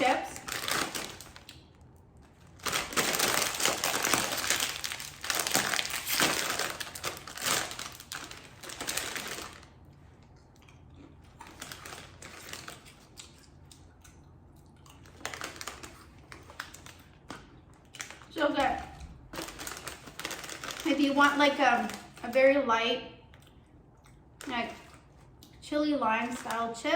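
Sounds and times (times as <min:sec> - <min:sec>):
chips crunching: 0:00.0 - 0:18.4, 0:19.0 - 0:22.4
snack bag crinkling: 0:00.0 - 0:22.6.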